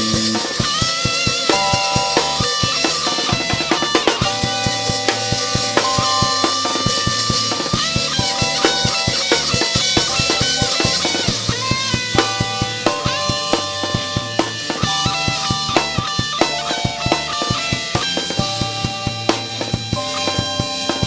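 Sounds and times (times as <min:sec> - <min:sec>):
bass and guitar: 0:00.0 - 0:21.0
drum kit fast beat: 0:00.0 - 0:21.0
held synth notes: 0:00.0 - 0:21.0.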